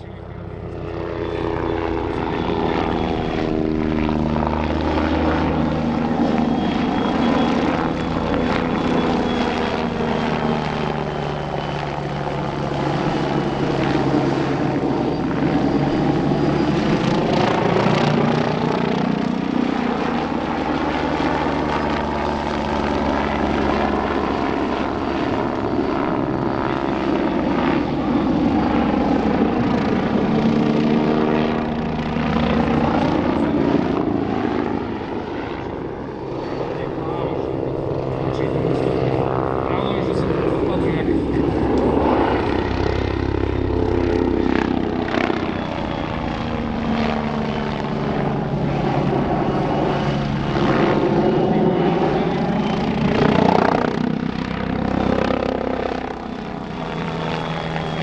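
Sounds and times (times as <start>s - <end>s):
faint high whine: 0.0s - 18.2s, 21.4s - 53.6s
helicopter rotor and turbine: 0.0s - 58.0s.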